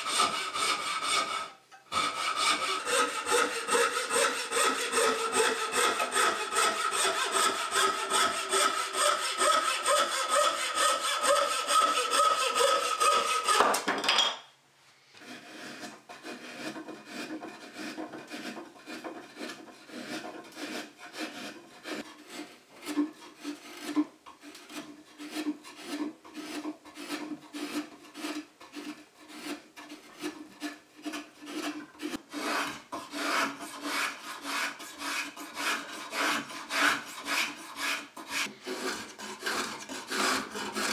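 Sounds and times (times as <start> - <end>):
drawknife shaving wood: 0.0 - 13.6, 15.2 - 40.9
bow saw cutting wood: 0.0 - 13.7, 15.2 - 40.9
rasp rubbing wood: 0.0 - 13.7, 15.2 - 40.9.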